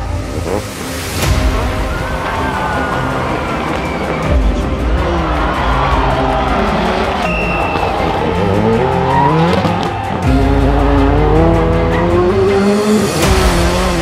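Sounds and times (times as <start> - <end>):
rally car engines revving: 0.0 - 1.6, 2.6 - 14.0
background music: 0.0 - 14.0.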